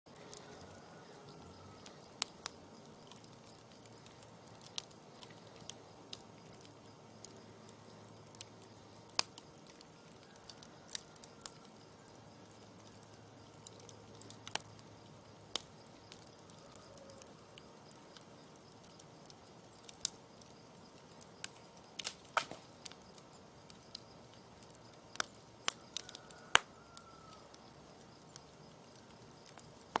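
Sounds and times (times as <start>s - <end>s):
campfire crackling: 0.1s - 30.0s
faint steady hiss: 0.1s - 30.0s.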